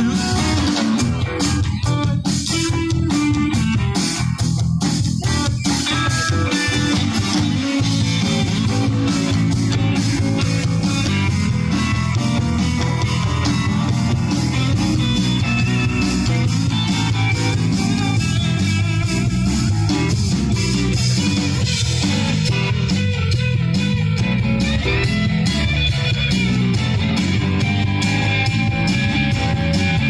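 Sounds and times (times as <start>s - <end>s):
rock band playing instrumental: 0.0s - 30.0s.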